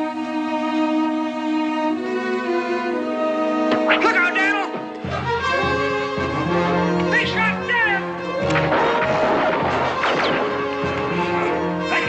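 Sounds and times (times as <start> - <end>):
bowed strings sustained chords: 0.0 - 12.0.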